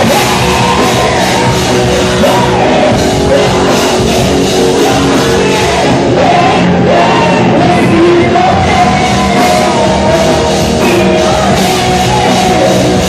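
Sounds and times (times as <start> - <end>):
rock band playing with singing: 0.0 - 13.0.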